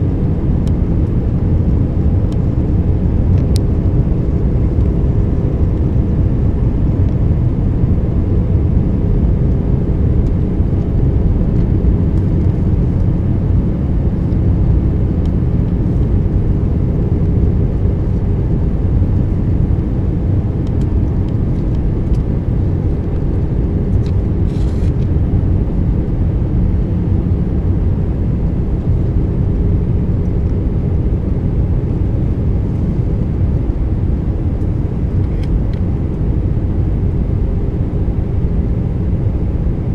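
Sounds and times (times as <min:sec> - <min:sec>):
airliner cabin engine rumble: 0:00.0 - 0:39.9
faint steady hum: 0:00.0 - 0:39.9.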